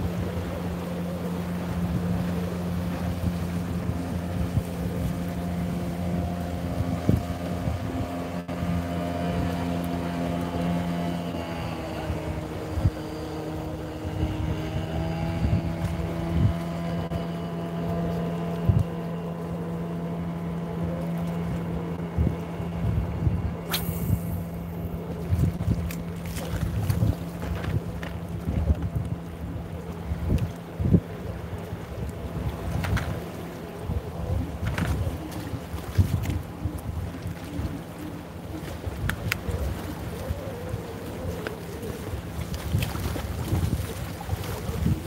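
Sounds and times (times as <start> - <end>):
motorboat engine humming: 0.0 - 45.0
wind buffeting microphone: 0.0 - 45.0.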